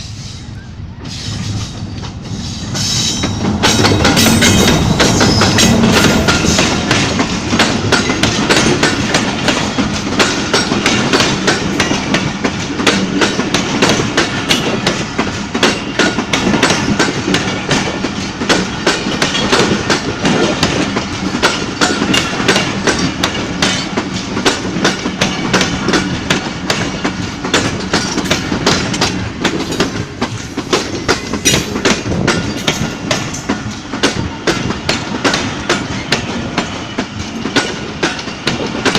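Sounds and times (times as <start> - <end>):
train wheels clattering over rail joints: 1.1 - 38.9.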